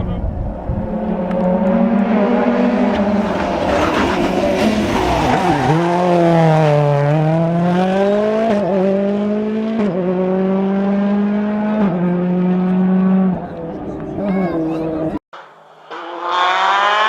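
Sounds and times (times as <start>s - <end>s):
rally car engine accelerating: 0.3s - 17.0s.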